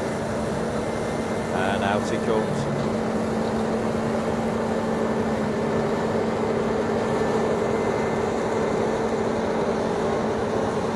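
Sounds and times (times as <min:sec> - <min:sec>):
combine harvester running: 0:00.0 - 0:10.9.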